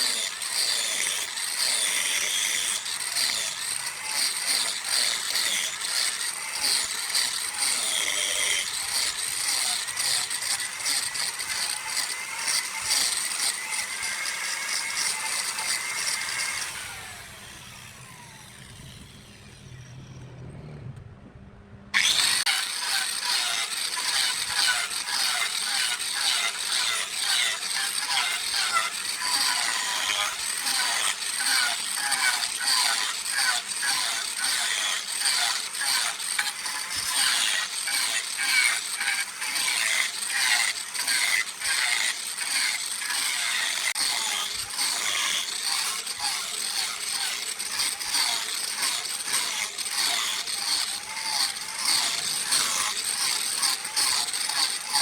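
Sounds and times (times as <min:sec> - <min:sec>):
tool rattling scrape on wood: 0:00.0 - 0:17.9, 0:22.0 - 0:55.0.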